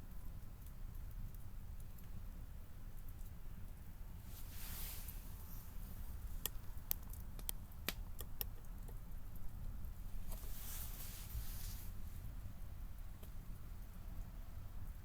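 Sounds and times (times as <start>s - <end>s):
soft hiss: 0.0s - 15.0s
wood fire crackling: 0.0s - 15.0s.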